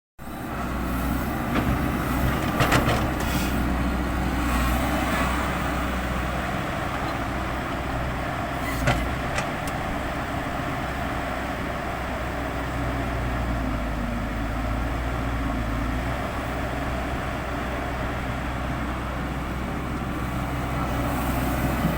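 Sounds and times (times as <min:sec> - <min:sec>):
heavy diesel engine running: 0:00.2 - 0:21.9.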